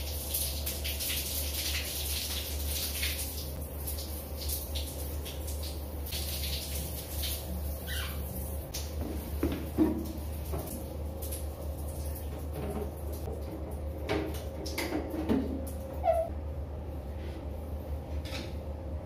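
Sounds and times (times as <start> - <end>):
steady low hum: 2.5 - 19.0.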